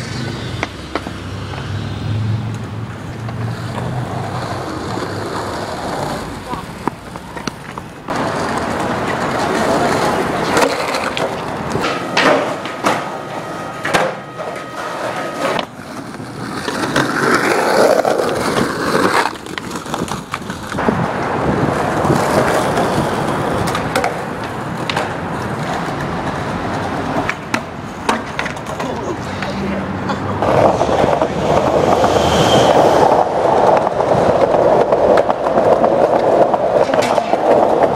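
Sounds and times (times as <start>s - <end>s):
skateboard clacks: 0.0s - 1.7s, 2.5s - 32.2s, 33.0s - 37.9s
skateboard wheels rolling on concrete: 0.0s - 37.9s.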